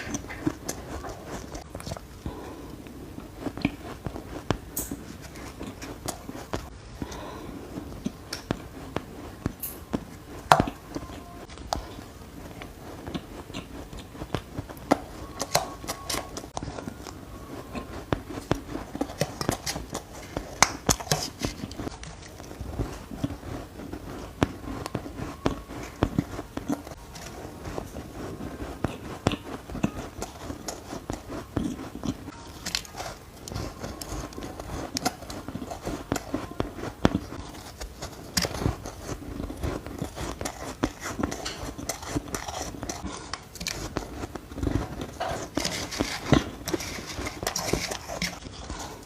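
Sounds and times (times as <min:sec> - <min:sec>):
person crunching shaved ice: 0:00.0 - 0:49.0.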